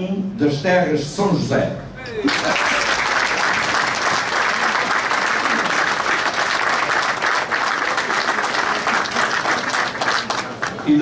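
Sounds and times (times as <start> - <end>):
crowd applauding: 2.2 - 11.0.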